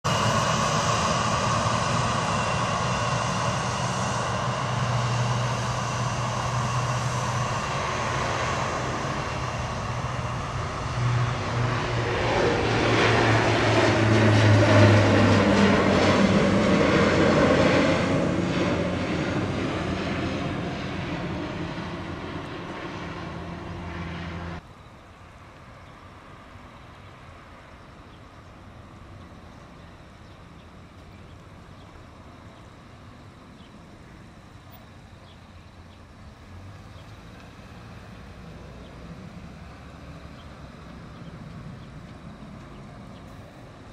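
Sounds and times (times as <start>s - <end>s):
propeller drone: 0.0s - 43.9s
turboprop engine whine: 0.0s - 43.9s.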